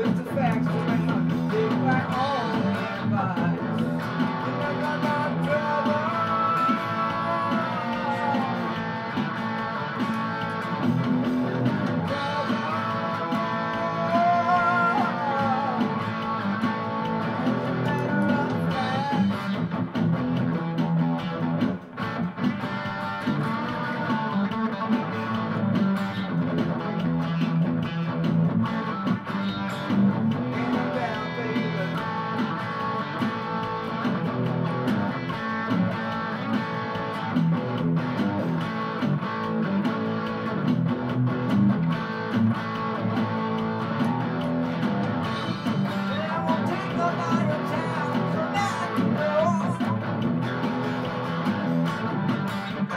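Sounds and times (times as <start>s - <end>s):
bass notes: 0.0s - 52.9s
electric guitar lead: 0.0s - 52.9s.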